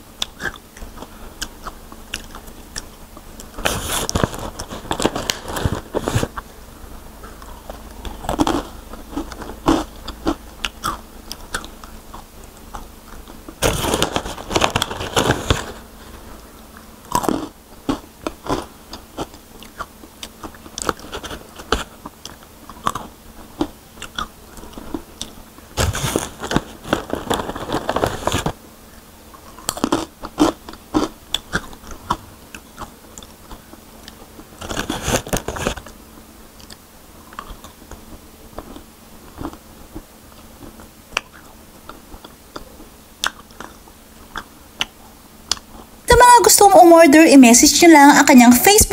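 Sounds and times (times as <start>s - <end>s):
crunching and chewing chips: 0.2s - 45.9s.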